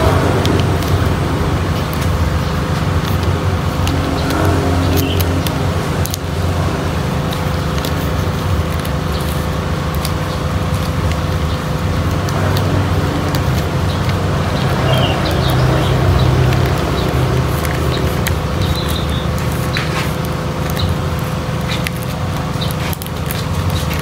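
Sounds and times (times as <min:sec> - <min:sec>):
low mechanical hum: 0:00.0 - 0:24.0
paper rustling: 0:00.0 - 0:24.0.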